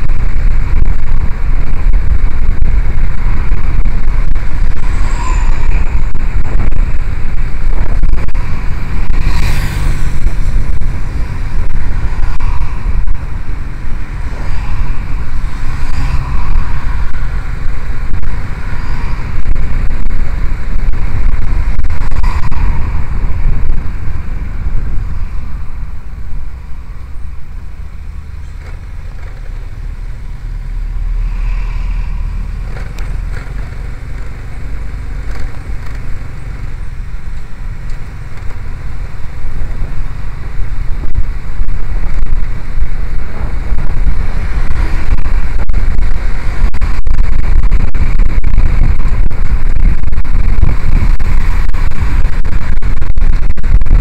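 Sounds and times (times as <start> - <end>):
cars passing: 0.0 - 54.0
road noise: 0.0 - 54.0
wind buffeting microphone: 0.0 - 54.0.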